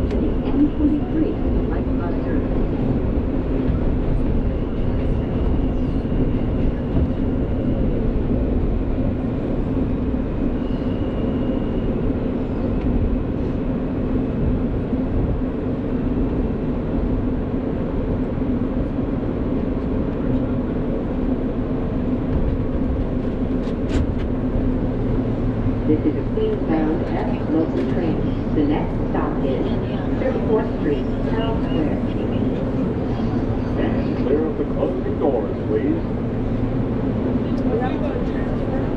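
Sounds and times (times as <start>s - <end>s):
subway car rumble and hum: 0.0s - 38.9s.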